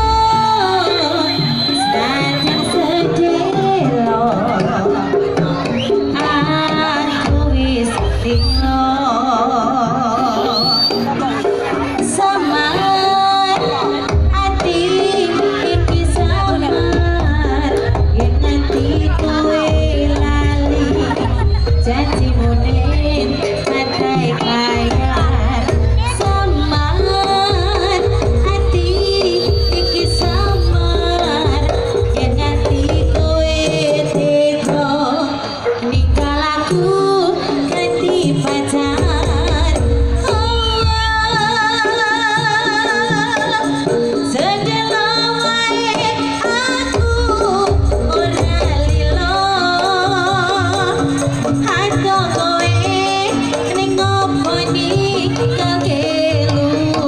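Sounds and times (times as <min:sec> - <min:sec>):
deep drum beats: 0:00.0 - 0:57.0
drum and gamelan ensemble: 0:00.0 - 0:57.0
woman singing: 0:00.0 - 0:57.0.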